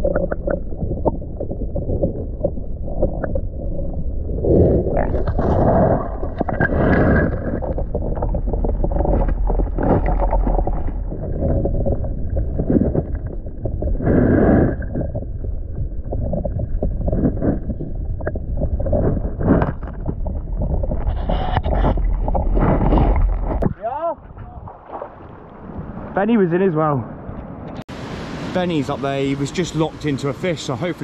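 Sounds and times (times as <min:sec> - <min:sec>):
wind rumbling on microphone: 0:00.0 - 0:26.4.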